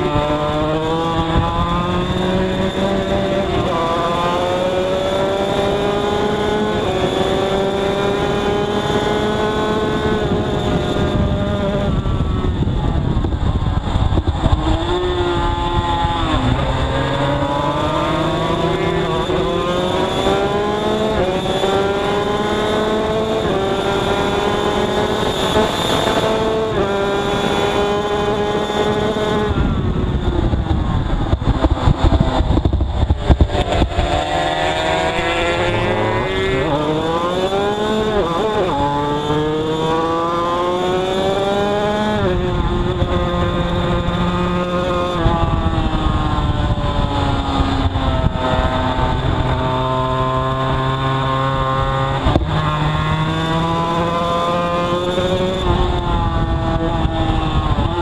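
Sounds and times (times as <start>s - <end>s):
motorcycle engine revving: 0.0s - 58.0s
wind on microphone: 0.0s - 58.0s.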